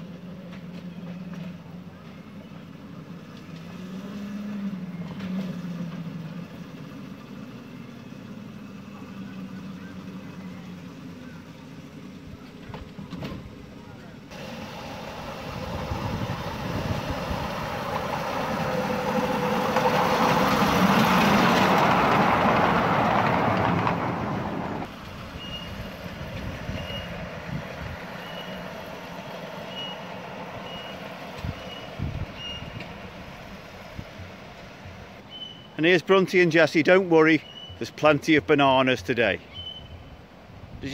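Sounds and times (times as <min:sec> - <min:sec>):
miniature train rumbling past: 0:00.0 - 0:40.9.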